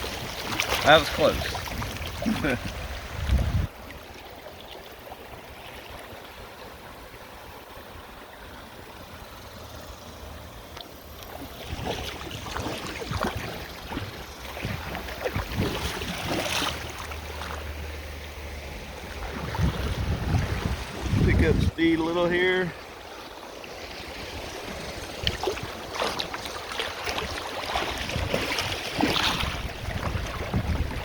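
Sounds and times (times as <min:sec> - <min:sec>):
water splashing close by: 0:00.0 - 0:09.2, 0:10.2 - 0:31.0.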